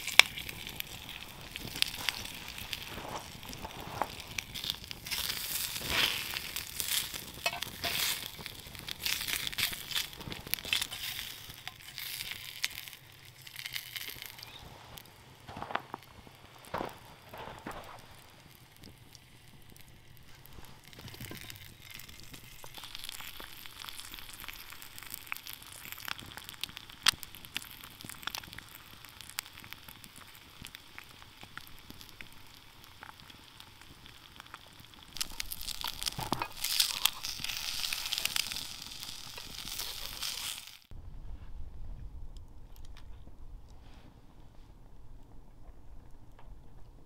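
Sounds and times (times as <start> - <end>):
food sizzling in a pan: 0.0 - 15.0, 16.2 - 40.9
fat popping and crackling: 0.0 - 41.0, 41.8 - 43.8.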